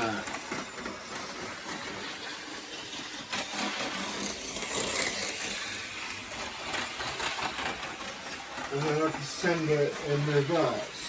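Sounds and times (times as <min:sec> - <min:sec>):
model train whirring and rattling: 0:00.0 - 0:11.0.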